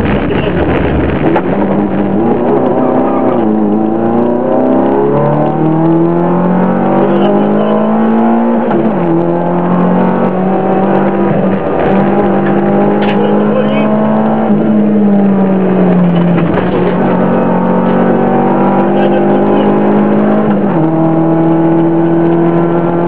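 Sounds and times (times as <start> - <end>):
car engine at full throttle: 0.0 - 23.0.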